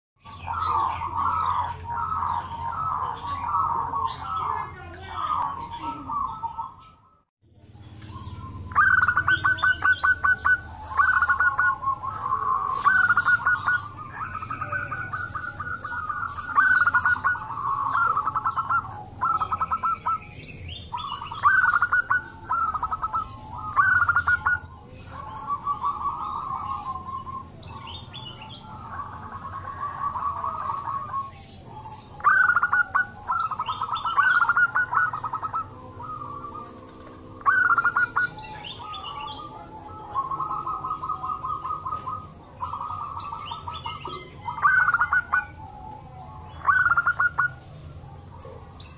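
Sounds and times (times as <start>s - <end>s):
doves cooing: 0.2s - 48.9s
faint high bird chirps: 0.2s - 48.9s.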